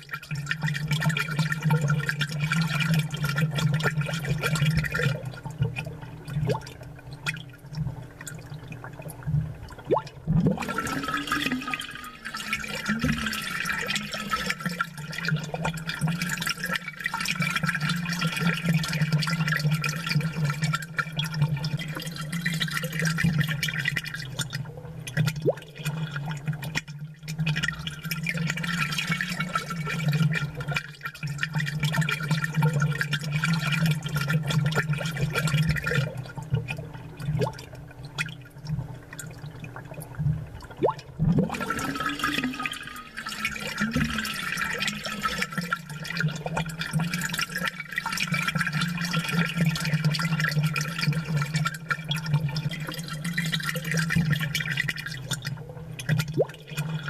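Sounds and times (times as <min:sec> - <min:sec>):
aquarium bubbles gurgling: 0:00.0 - 0:57.0.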